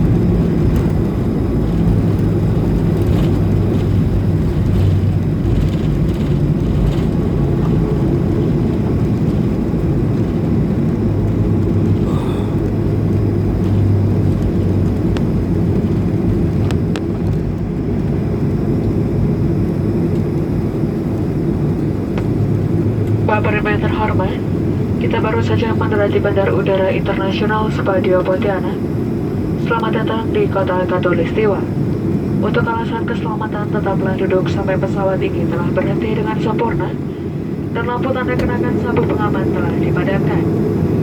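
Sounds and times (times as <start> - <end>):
jet engines rumbling in cabin: 0.0 - 41.0.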